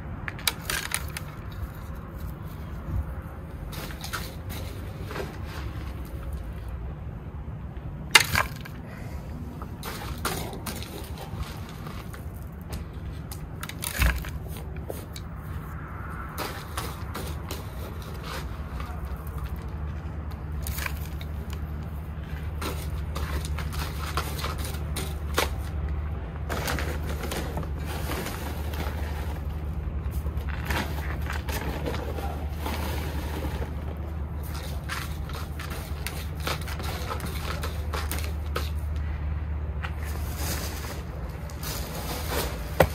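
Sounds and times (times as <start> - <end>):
gritty substrate clicks and rustles: 0.3 - 6.7, 9.6 - 39.0, 39.8 - 42.9.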